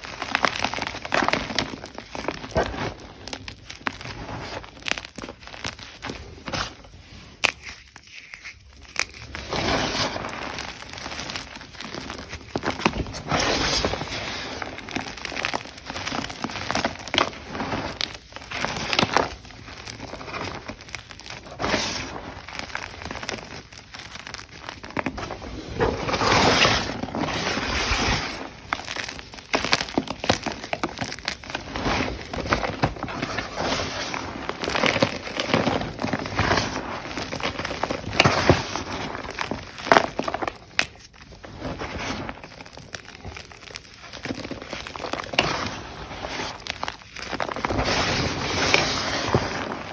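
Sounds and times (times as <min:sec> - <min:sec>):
chalk blocks crunching: 0:00.0 - 0:49.9.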